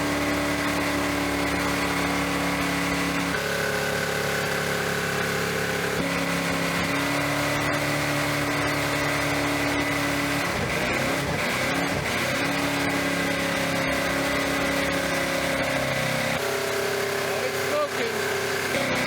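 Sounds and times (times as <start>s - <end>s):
engine droning at full throttle: 0.0s - 19.0s.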